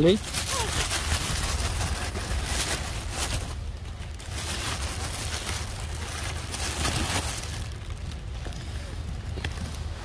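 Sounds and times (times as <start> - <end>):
rustling: 0.0 - 10.0
wind buffeting microphone: 0.2 - 10.0.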